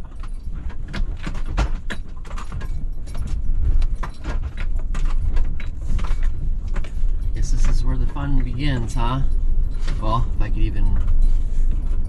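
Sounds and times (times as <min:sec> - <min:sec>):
engine and tyres rumbling: 0:00.0 - 0:12.0
van contents rattling: 0:00.0 - 0:12.0.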